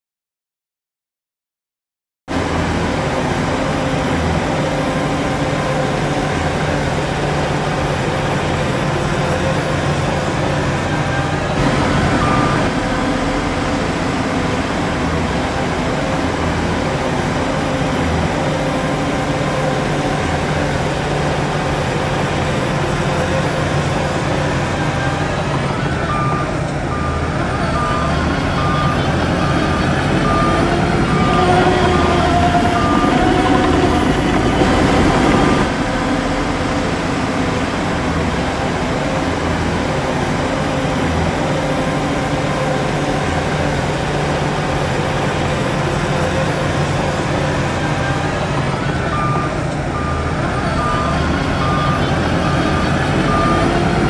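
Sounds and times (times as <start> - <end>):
heavy diesel machinery running: 2.3 - 54.0
reversing alarm beeping: 3.6 - 54.0.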